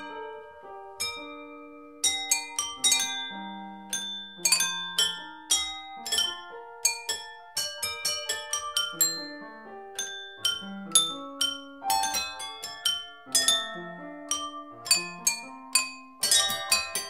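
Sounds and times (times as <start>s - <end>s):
struck wine glasses playing tune: 0.0s - 17.0s.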